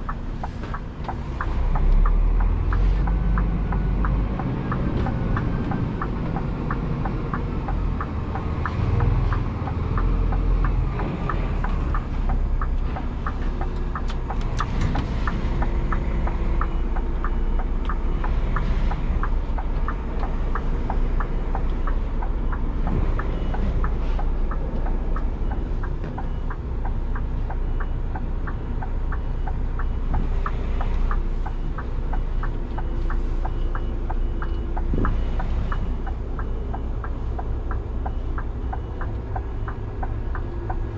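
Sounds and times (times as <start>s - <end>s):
light ticking: 0.0s - 40.9s
truck diesel engine rumbling: 0.0s - 40.9s.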